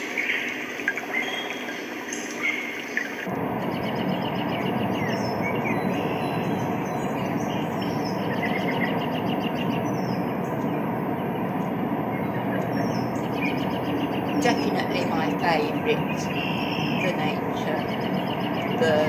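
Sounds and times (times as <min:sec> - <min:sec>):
birds twittering: 0:00.0 - 0:19.0.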